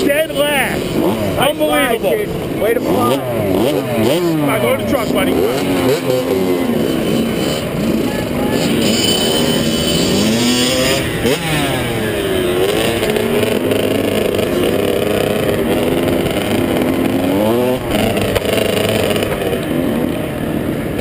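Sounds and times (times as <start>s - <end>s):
two-stroke motocross bike engine revving: 0.0s - 21.0s.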